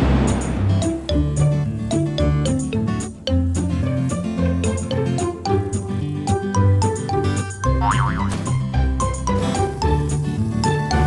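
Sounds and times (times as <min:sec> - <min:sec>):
upbeat children's music: 0:00.7 - 0:11.0.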